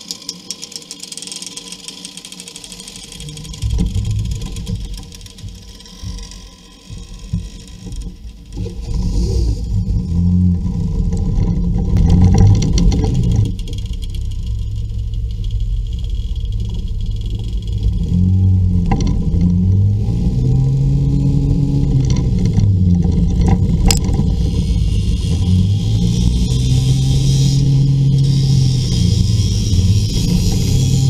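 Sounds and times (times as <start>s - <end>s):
scooter engines running: 0.0s - 31.0s.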